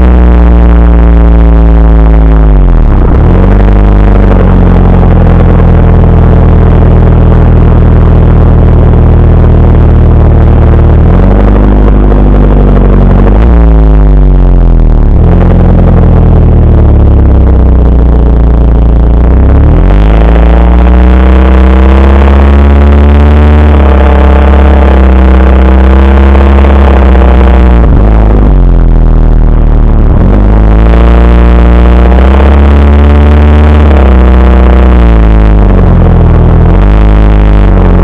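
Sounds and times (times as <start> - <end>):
car exhaust revving: 0.0 - 38.0.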